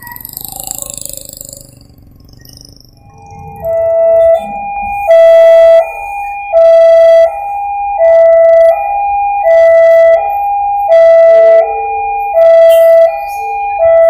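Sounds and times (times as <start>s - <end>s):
level crossing two-tone alarm: 0.0s - 14.0s.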